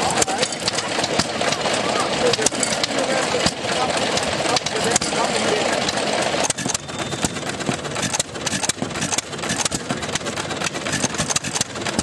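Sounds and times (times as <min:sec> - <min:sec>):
sharp engine knocks: 0:00.0 - 0:12.0
tractor engine idling: 0:00.0 - 0:12.0.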